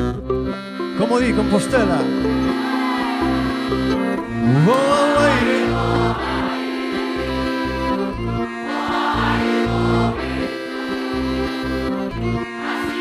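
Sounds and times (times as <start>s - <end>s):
folk band playing: 0.0s - 13.0s.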